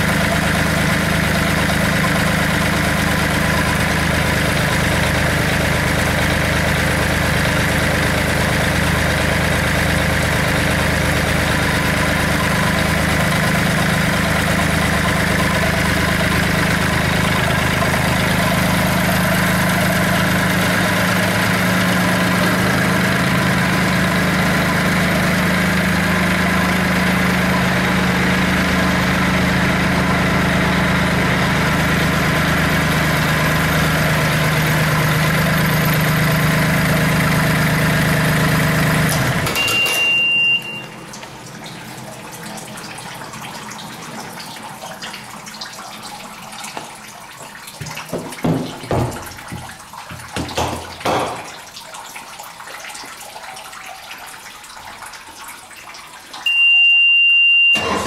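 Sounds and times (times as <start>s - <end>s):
outboard motor running: 0.0s - 47.0s, 57.7s - 58.0s.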